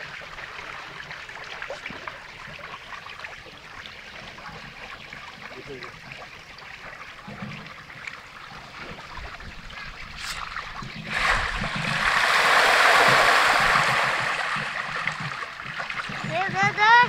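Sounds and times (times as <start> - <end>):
water rushing at pond surface: 0.0 - 17.0.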